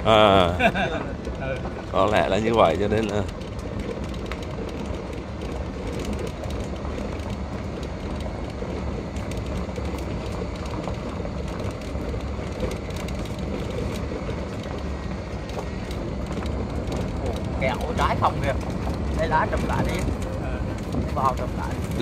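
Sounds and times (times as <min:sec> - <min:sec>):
cart body rattling: 0:00.0 - 0:22.0
cart tyres rumbling on stone: 0:00.0 - 0:22.0.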